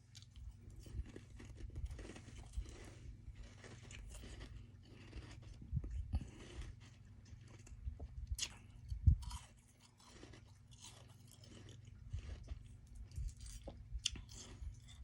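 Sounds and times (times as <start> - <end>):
chewing crunchy ice: 0.0 - 15.0.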